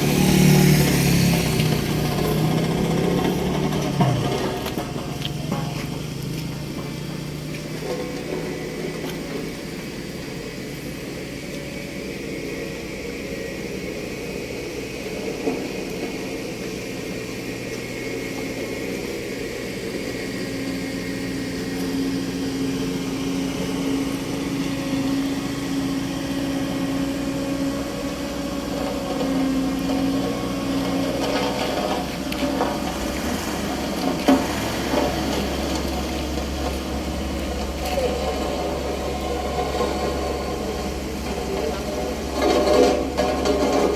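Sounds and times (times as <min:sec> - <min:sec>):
large vehicle engine humming: 0:00.0 - 0:43.9.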